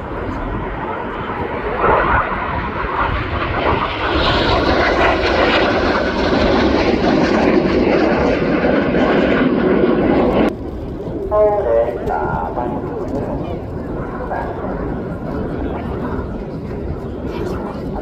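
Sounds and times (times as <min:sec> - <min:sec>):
aircraft engine flying past: 0:00.0 - 0:18.0.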